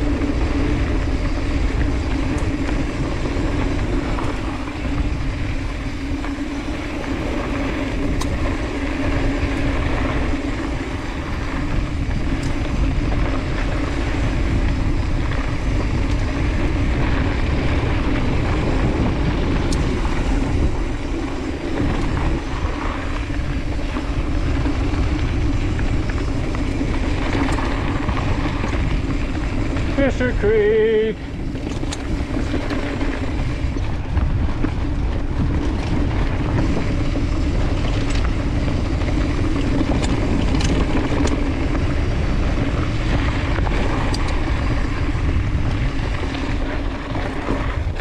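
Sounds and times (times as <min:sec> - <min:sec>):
sharp clicks of bike: 0:00.0 - 0:48.0
tyres rolling over dirt: 0:00.0 - 0:48.0
wind buffeting microphone: 0:00.0 - 0:48.0.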